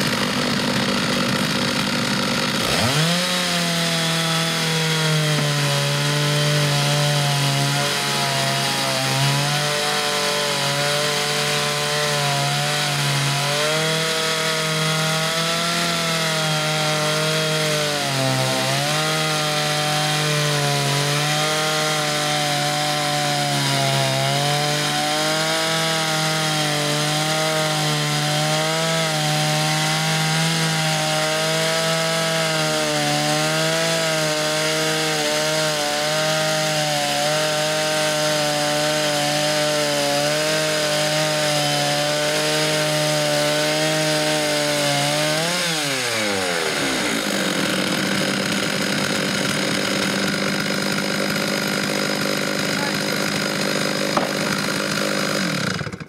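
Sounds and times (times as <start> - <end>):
chainsaw cutting timber: 0.0 - 56.0.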